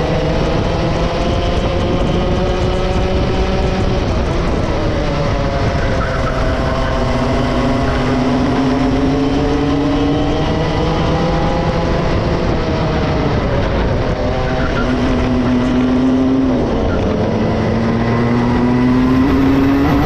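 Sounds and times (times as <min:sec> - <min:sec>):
kart engine at high revs: 0:00.0 - 0:20.0.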